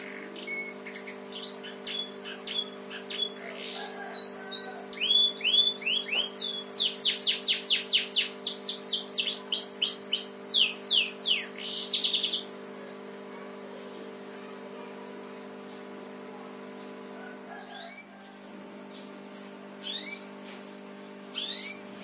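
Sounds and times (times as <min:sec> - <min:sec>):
canary singing: 0:00.0 - 0:14.2, 0:16.6 - 0:22.0
steady low hum: 0:00.0 - 0:22.0.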